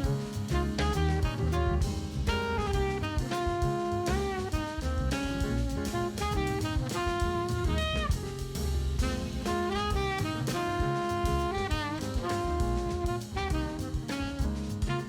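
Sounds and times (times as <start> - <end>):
drum kit steady beat: 0.0 - 15.0
saxophone melody: 0.0 - 15.0.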